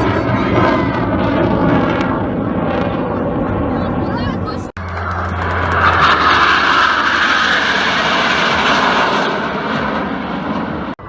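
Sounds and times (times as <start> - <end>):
jet passing overhead: 0.0 - 11.0.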